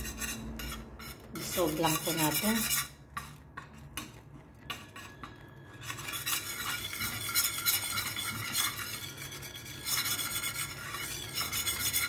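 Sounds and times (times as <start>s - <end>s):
whisk scraping sauce in pan: 0.0s - 12.0s.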